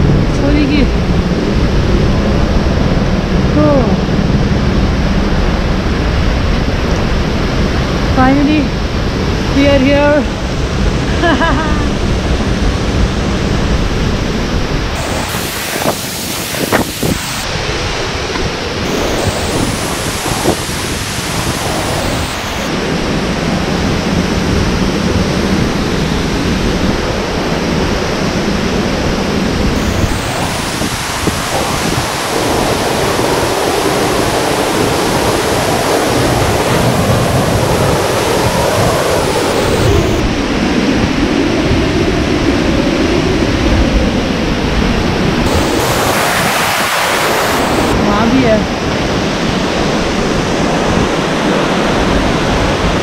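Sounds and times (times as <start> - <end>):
waterfall roaring: 0.0 - 41.1, 44.2 - 53.0.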